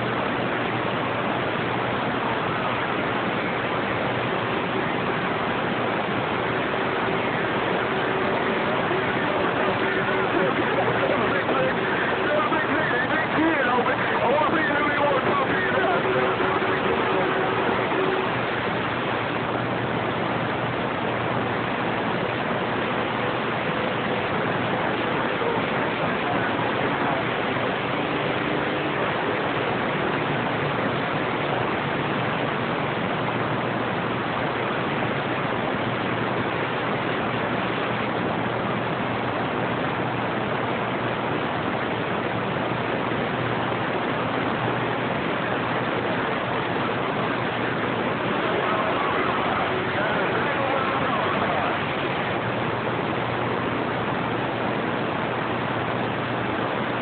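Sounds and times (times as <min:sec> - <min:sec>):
radio static hiss: 0:01.8 - 0:57.0.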